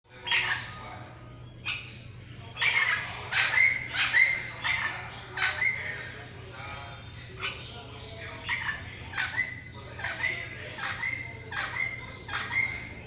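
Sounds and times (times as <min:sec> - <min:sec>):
birds squawking: 0:00.1 - 0:13.0.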